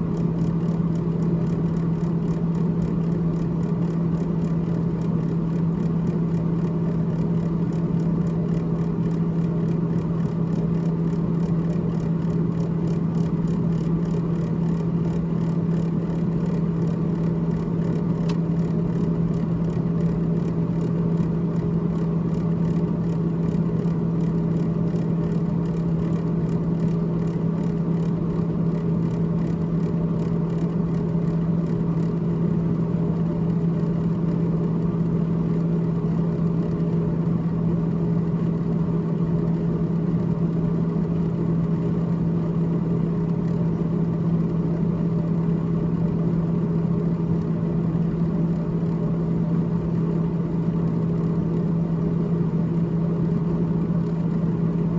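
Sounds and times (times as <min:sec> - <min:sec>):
refrigerator fan hum: 0:00.0 - 0:54.9.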